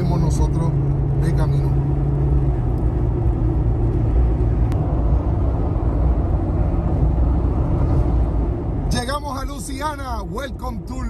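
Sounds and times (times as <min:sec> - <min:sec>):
car interior road and engine noise: 0:00.0 - 0:11.0.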